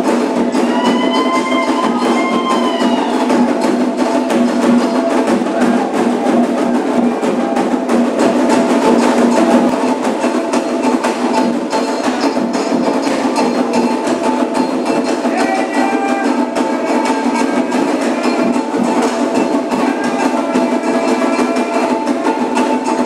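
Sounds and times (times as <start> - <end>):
hand drums fast rhythm: 0.0 - 23.0.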